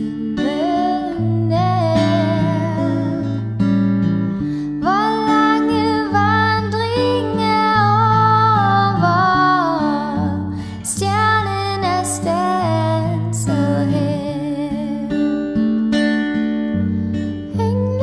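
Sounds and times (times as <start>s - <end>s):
woman singing: 0.0s - 15.7s, 17.5s - 18.0s
acoustic guitar chords: 0.0s - 18.0s.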